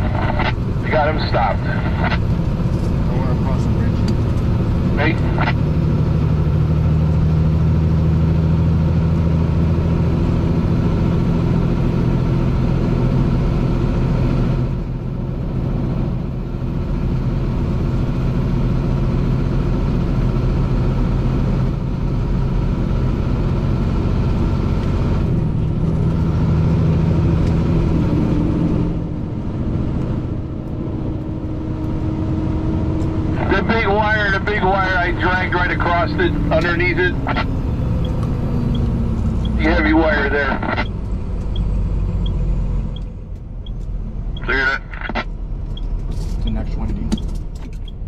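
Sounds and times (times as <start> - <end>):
truck diesel engine running: 0.0 - 48.0
tyre and road noise: 0.0 - 48.0.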